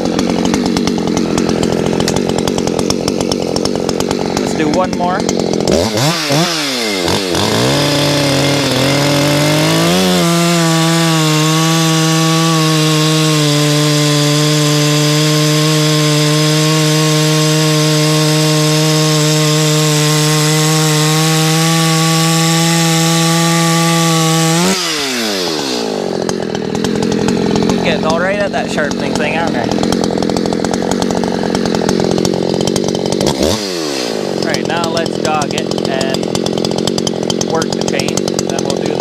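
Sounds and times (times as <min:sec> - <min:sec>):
chainsaw cutting through a log: 0:00.0 - 0:39.0.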